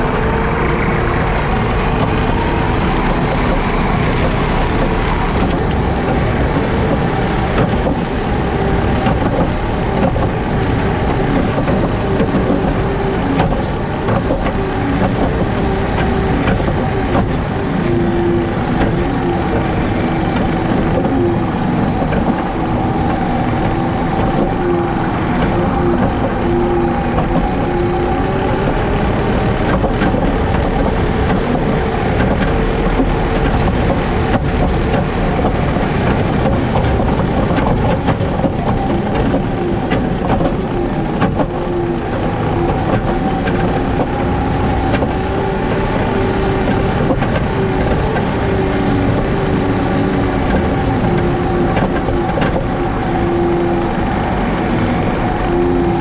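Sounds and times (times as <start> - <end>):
mower: 0.0 - 54.5
diesel engine droning with whine: 0.0 - 56.0.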